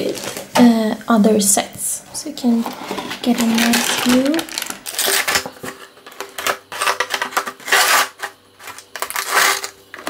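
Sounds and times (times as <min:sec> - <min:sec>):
cardboard and plastic packaging crackling: 0:00.0 - 0:00.7, 0:02.2 - 0:10.0.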